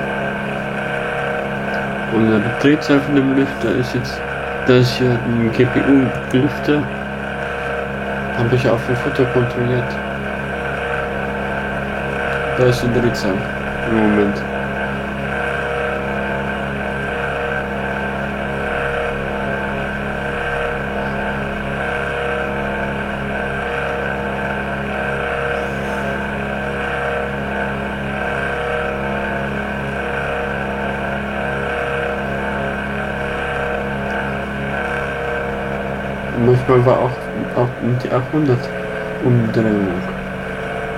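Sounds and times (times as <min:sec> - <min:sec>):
laptop cooling fan humming: 0:00.0 - 0:40.9.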